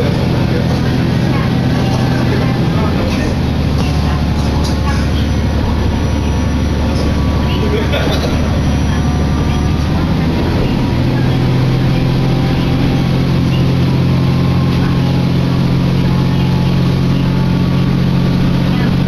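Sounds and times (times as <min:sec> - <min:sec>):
diesel railcar engine drone: 0:00.0 - 0:19.0
track and running noise: 0:00.0 - 0:19.0.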